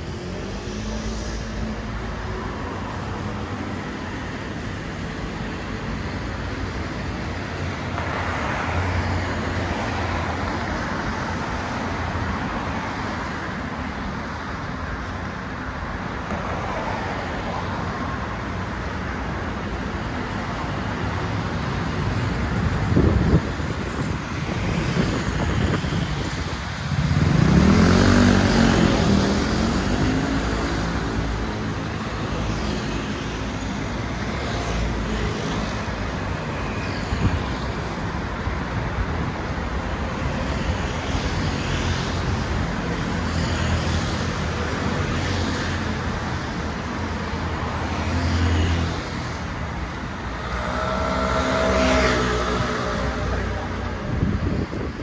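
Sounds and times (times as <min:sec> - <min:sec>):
city street traffic: 0:00.0 - 0:55.0.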